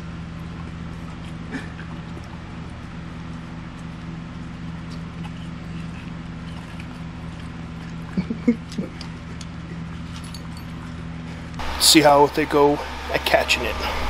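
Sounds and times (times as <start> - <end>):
dogs chewing watermelon: 0.0 - 11.6
low hum: 0.0 - 14.0.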